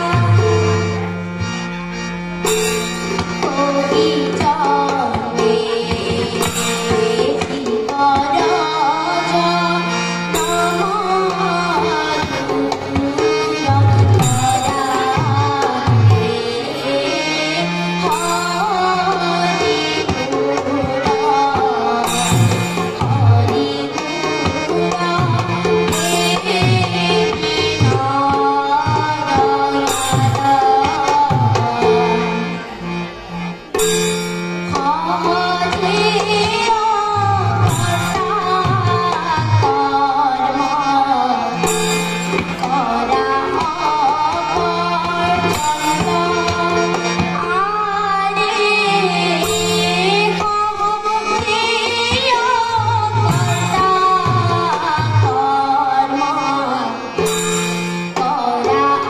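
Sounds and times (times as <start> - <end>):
harmonium drone and melody: 0.0 - 59.0.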